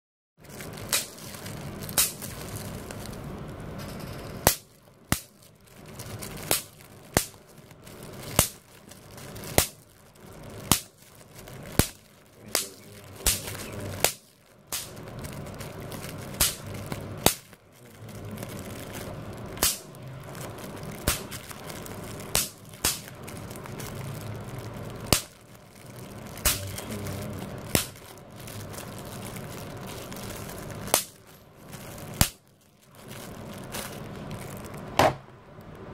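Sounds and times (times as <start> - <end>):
plastic sheet crinkling: 0.4 - 35.7
bubble wrap popping: 0.4 - 35.8.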